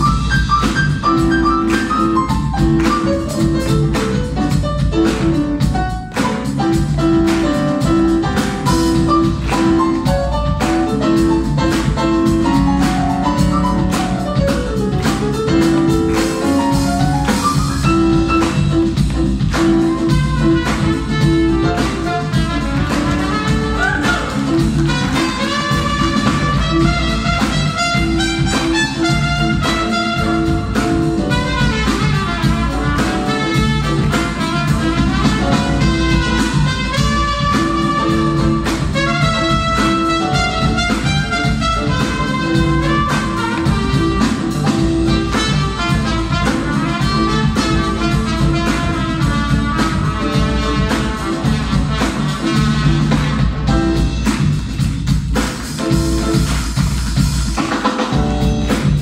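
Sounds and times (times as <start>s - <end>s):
live band playing instrumental: 0.0s - 59.0s.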